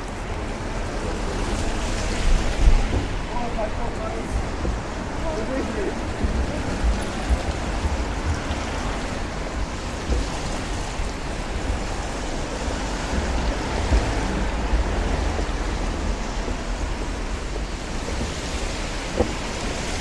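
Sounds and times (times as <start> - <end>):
rain: 0.0 - 20.0
tyres hissing on wet road: 0.0 - 20.0.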